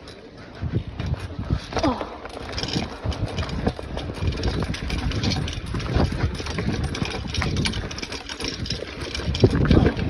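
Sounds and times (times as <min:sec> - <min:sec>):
bicycle tyres rumbling on dirt: 0:00.0 - 0:10.0
bike rattling and knocking: 0:00.0 - 0:10.0.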